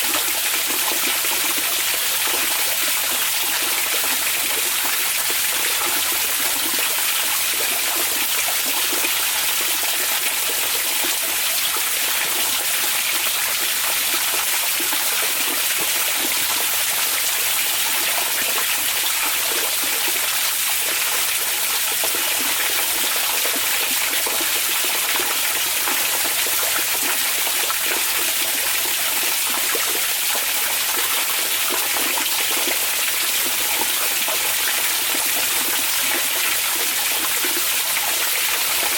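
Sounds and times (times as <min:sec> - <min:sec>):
water running steadily: 0:00.0 - 0:38.9.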